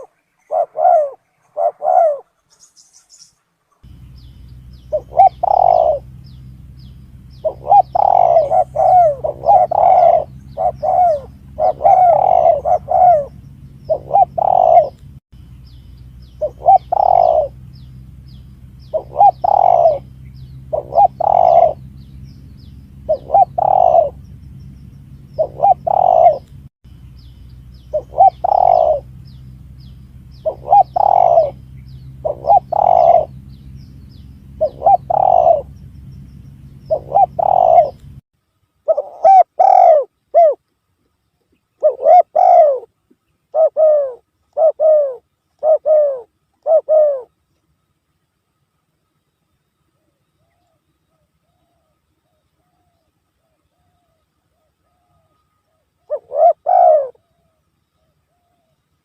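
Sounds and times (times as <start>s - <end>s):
dove cooing: 0.0s - 2.5s, 3.9s - 15.0s, 16.3s - 24.4s, 25.1s - 26.5s, 27.8s - 35.9s, 36.6s - 38.1s, 38.8s - 40.6s, 41.8s - 47.4s, 50.0s - 58.8s
steady low hum: 0.0s - 59.0s.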